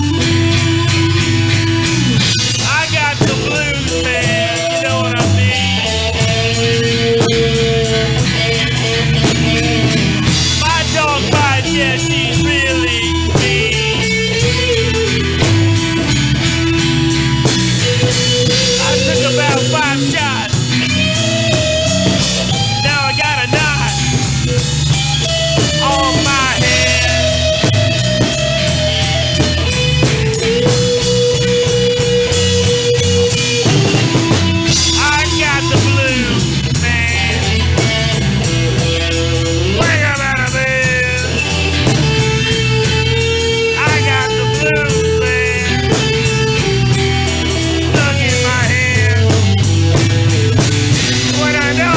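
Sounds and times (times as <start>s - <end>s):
bass guitar: 0.0s - 51.9s
drum kit: 0.0s - 51.9s
lead electric guitar: 0.0s - 51.9s.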